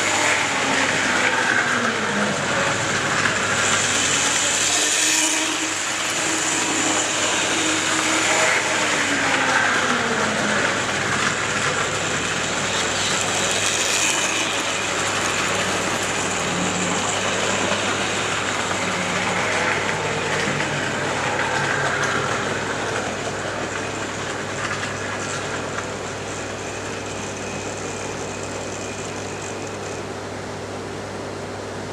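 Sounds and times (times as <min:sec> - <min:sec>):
model train running on track: 0:00.0 - 0:31.9.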